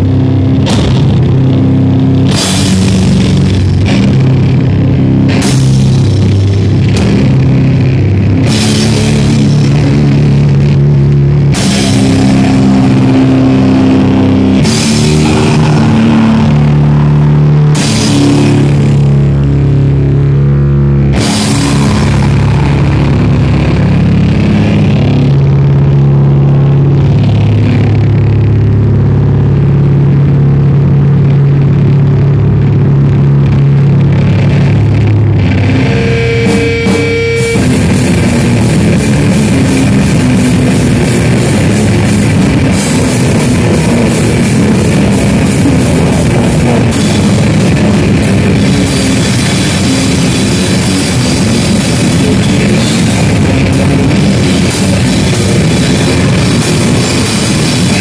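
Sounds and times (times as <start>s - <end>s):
drums and crashing cymbals: 0.0s - 19.5s, 21.1s - 25.6s, 34.4s - 58.0s
distorted electric guitar: 0.0s - 58.0s.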